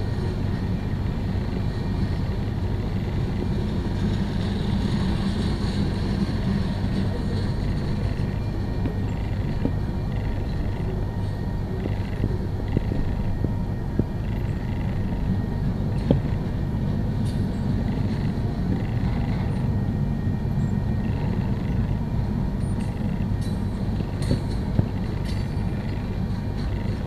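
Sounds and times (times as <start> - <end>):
freight train cars rolling: 0.0 - 27.0.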